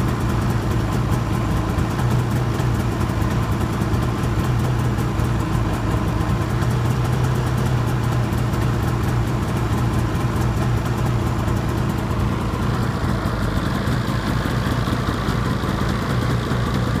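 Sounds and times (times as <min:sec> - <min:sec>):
snowmobile engine idling: 0:00.0 - 0:17.0.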